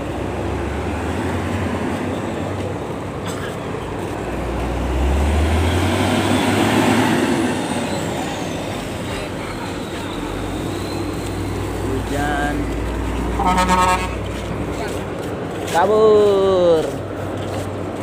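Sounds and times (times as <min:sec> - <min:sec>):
heavy vehicle engine rumbling past: 0:00.0 - 0:18.0.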